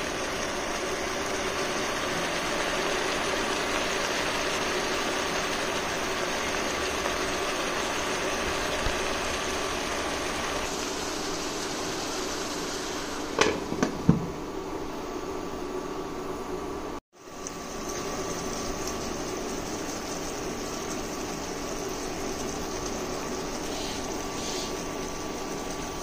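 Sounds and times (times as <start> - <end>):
pan hissing on stove: 0.0 - 15.5, 17.2 - 26.0.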